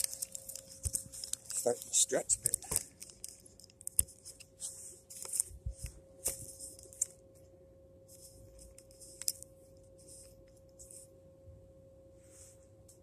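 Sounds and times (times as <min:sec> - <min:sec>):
faint steady tone: 0:00.0 - 0:13.0.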